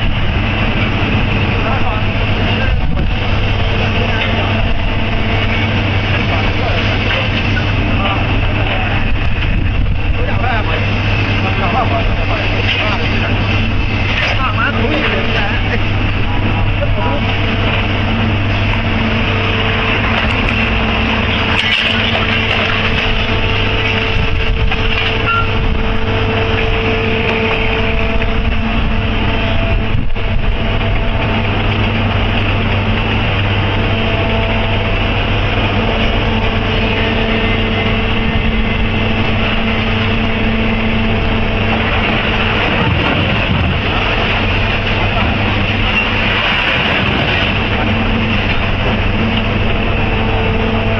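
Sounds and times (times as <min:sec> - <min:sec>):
heavy vehicle engine running: 0:00.0 - 0:50.9.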